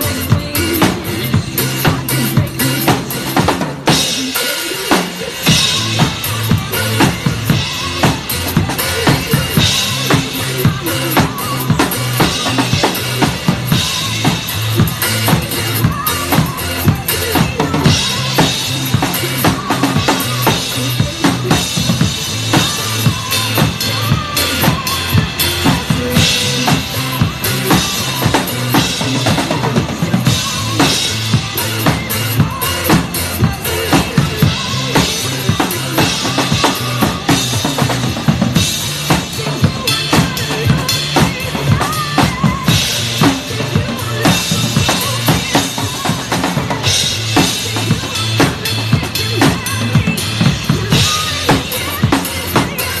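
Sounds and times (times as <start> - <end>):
drum kit beat: 0.0 - 53.0
pop backing track: 0.0 - 53.0.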